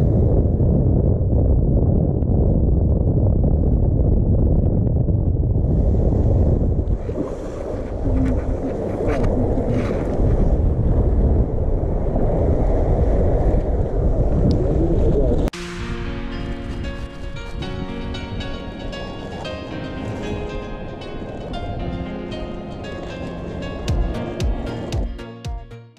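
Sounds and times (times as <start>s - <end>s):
wind buffeting microphone: 0.0s - 25.1s.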